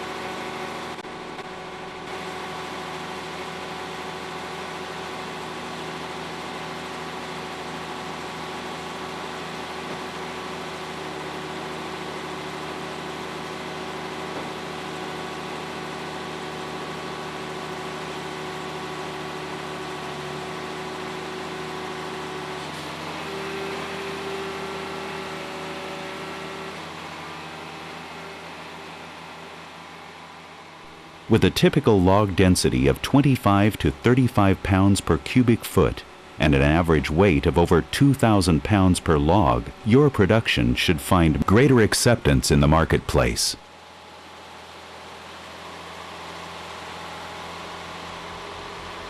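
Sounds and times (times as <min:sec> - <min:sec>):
diesel engine and hydraulic pumps: 0:00.0 - 0:49.0.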